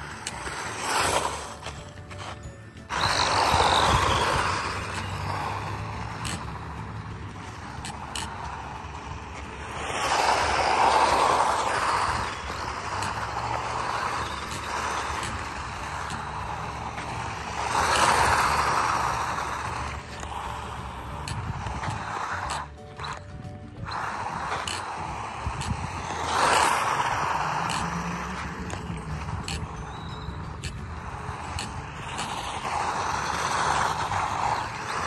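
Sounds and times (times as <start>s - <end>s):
toy car wheels spinning on dirt: 0.0s - 35.0s.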